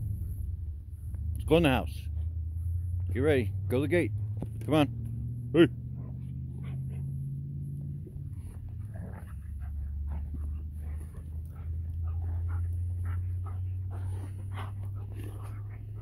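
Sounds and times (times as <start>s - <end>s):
steady low hum: 0.0s - 16.0s
dogs panting: 2.0s - 16.0s.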